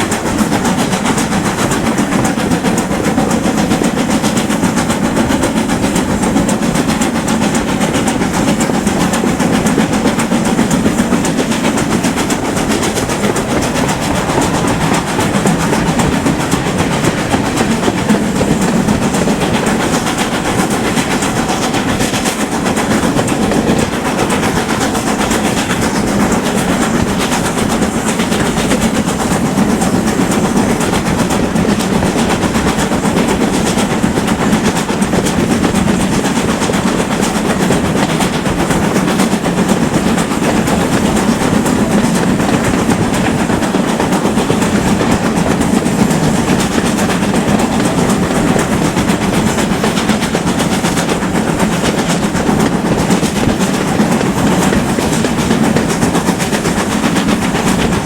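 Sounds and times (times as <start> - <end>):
clickety-clack of rails: 0.0 - 58.0
train wheels rumbling on track: 0.0 - 58.0.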